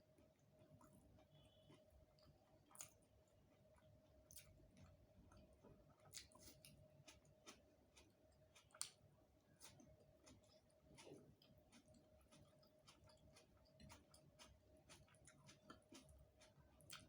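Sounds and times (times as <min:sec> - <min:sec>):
faint steady hum: 0:00.0 - 0:17.0
chewing clicks and smacks: 0:00.2 - 0:17.0.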